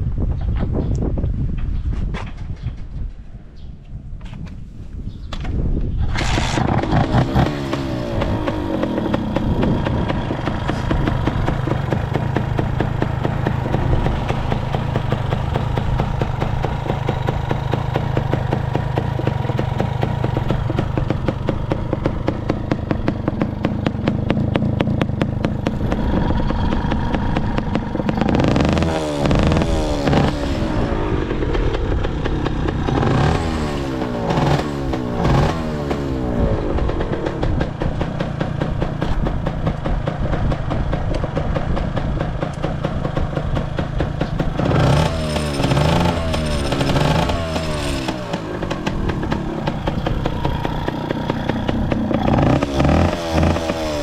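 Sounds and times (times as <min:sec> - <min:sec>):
motorcycle engine idling and revving: 0:05.0 - 0:54.0.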